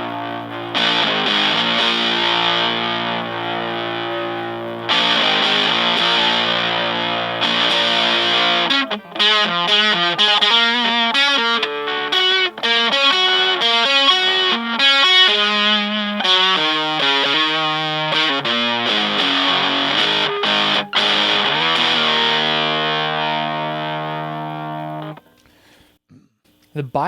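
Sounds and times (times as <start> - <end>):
fuzzed electric guitar: 0.0 - 25.5.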